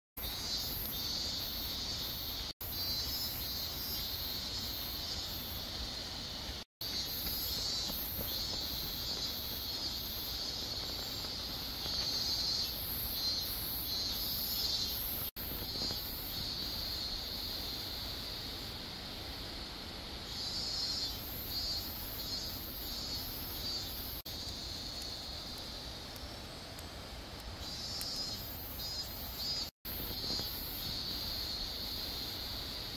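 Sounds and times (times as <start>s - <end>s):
insects shrilling: 0.2s - 26.6s, 27.5s - 32.9s.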